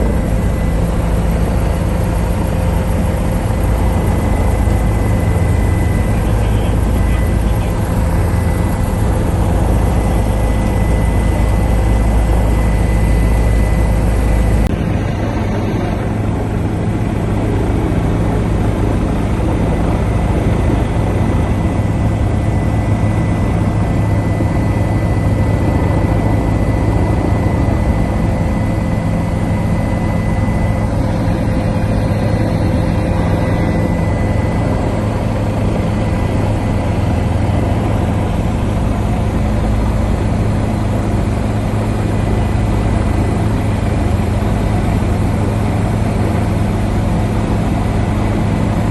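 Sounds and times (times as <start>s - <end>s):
constant whine: 0.0s - 48.9s
helicopter engine and rotor drone: 0.0s - 48.9s.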